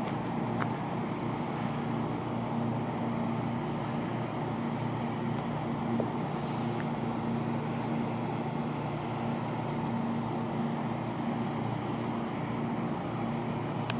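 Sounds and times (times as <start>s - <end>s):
machine engine drone: 0.0s - 13.9s.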